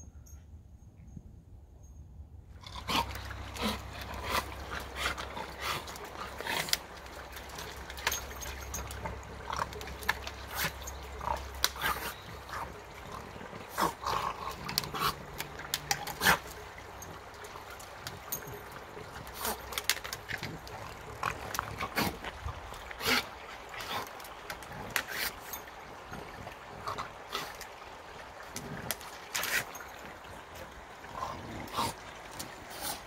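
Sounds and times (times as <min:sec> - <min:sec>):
dog splashing through water: 0:02.7 - 0:33.0.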